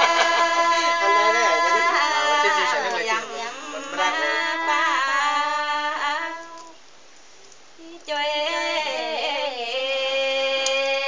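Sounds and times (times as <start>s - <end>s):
women singing folk song: 0.0s - 7.0s, 7.7s - 11.0s.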